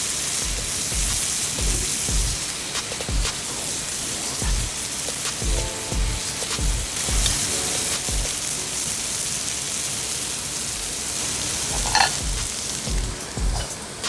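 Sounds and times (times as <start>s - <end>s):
background music with a beat: 0.0s - 9.3s, 11.7s - 14.0s
steady hiss: 0.0s - 14.0s.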